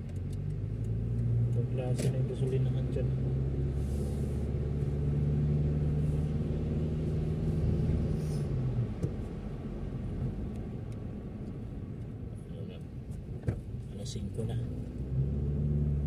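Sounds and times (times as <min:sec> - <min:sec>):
car engine hum: 0:00.0 - 0:16.0
road noise rumble: 0:00.0 - 0:16.0.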